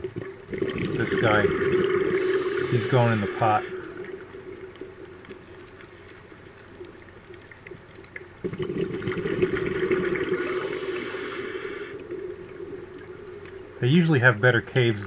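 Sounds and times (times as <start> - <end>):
exhaled bubbles underwater: 0.0 - 13.9.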